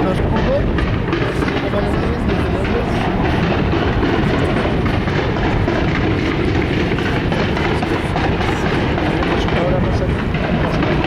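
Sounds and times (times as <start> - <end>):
fireworks crackling: 0.0 - 11.0
fireworks shell bursts rumbling: 0.0 - 11.0.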